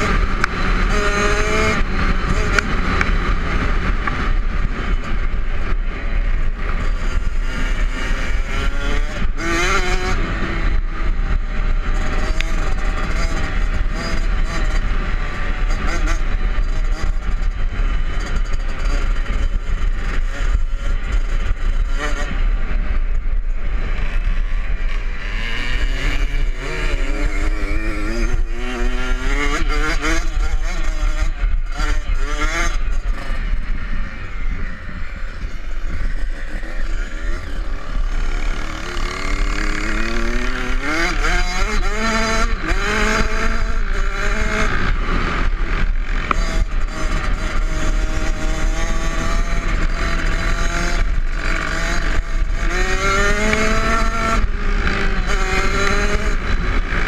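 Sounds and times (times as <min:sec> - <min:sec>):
motorcycle engine revving: 0:00.0 - 0:57.0
wind rumbling on microphone: 0:00.0 - 0:57.0.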